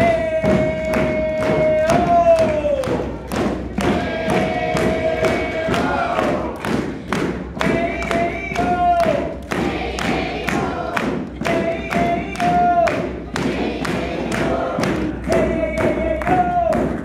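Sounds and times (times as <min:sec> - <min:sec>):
group of voices chanting: 0:00.0 - 0:16.9
audience clapping: 0:00.0 - 0:17.0
percussion band drumming: 0:00.0 - 0:17.0.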